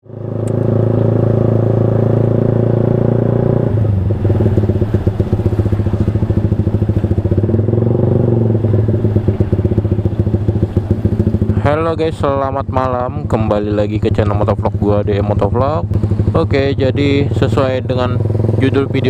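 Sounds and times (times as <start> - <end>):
motorcycle engine exhaust: 0.0 - 19.0.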